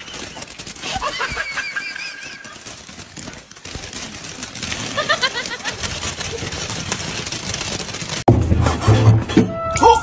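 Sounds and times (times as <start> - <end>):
fireworks crackling: 0.0 - 8.6.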